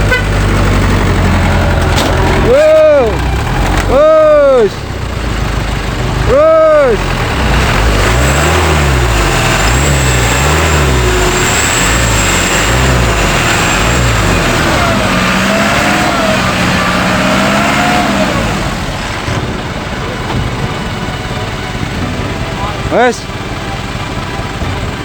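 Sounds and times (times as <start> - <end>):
heavy truck engine revving: 0.0 - 25.0.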